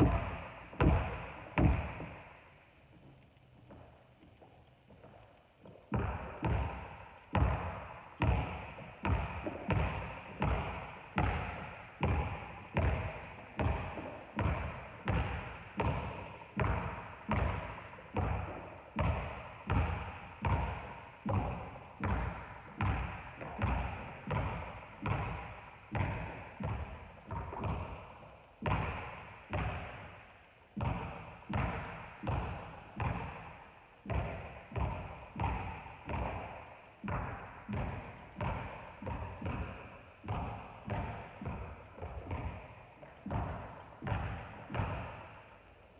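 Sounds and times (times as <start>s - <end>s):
basketball bouncing on wooden floor: 0.0s - 30.2s, 30.8s - 45.5s.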